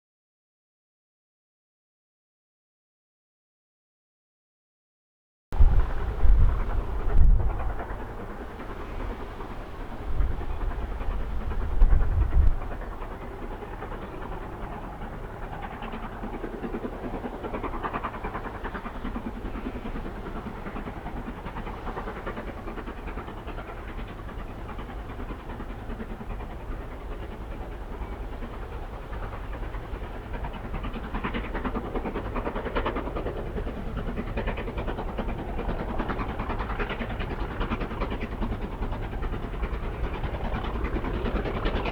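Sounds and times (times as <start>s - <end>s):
train rumble with wheel clatter: 5.6s - 41.9s
wind buffeting microphone: 5.6s - 41.9s.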